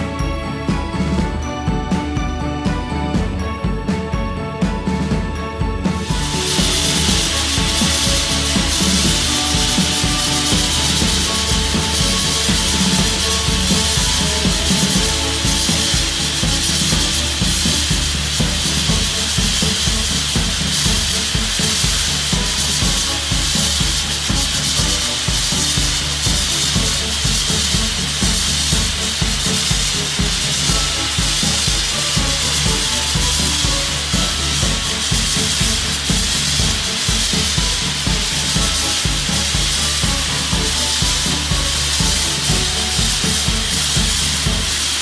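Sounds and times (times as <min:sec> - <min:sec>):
background music with low beat: 0:00.0 - 0:45.0
grit-blasting nozzle hissing: 0:06.0 - 0:45.0.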